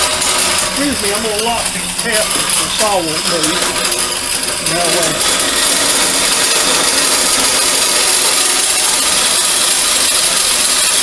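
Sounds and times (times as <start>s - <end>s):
band saw cutting steel: 0.0s - 11.0s.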